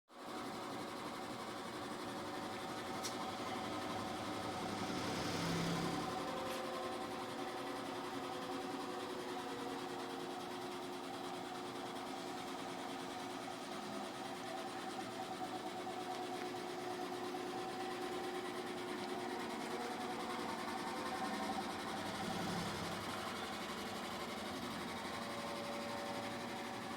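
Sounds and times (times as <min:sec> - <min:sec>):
machine mechanical hum: 0:00.2 - 0:26.9.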